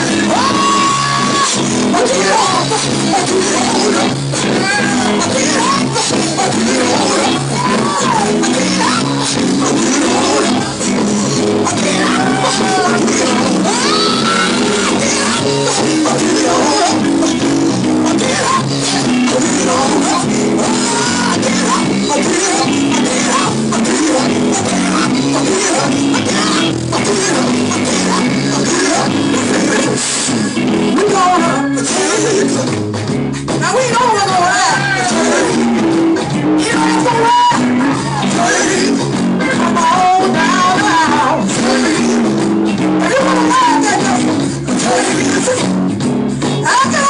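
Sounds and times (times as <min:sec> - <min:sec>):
lead voice or instrument: 0:00.0 - 0:32.7, 0:33.5 - 0:47.0
person singing: 0:00.0 - 0:32.7, 0:33.6 - 0:45.8
drums: 0:00.0 - 0:47.0
guitar playing: 0:00.0 - 0:47.0
keyboard or organ chords: 0:00.0 - 0:47.0
live gospel band: 0:00.0 - 0:47.0.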